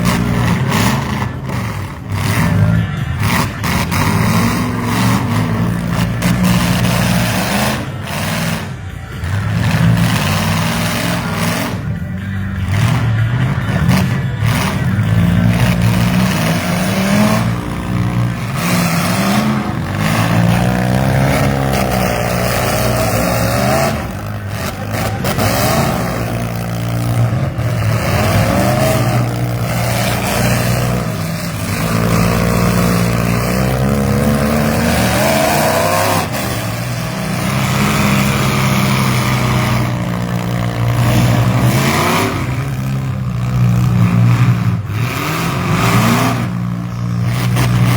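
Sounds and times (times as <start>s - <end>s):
engines revving: 0.0s - 47.9s
low engine drone: 0.0s - 47.9s.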